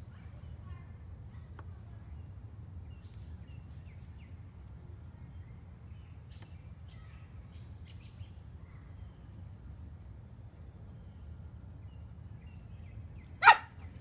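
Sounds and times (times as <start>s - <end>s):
faint songbirds chirping: 0.0s - 14.0s
low outdoor rumble: 0.0s - 14.0s.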